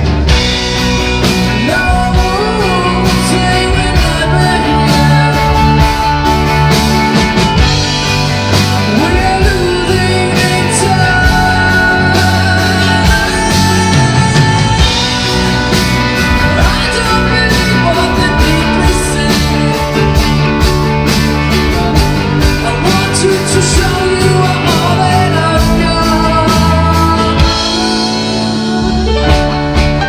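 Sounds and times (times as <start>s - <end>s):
rock band playing live: 0.0s - 30.0s
man singing: 1.3s - 7.1s, 8.6s - 20.7s, 22.4s - 29.6s.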